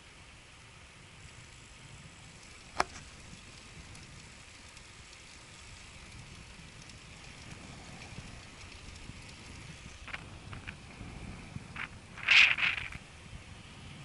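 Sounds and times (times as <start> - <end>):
bicycle rolling on paved road: 0.0 - 14.0.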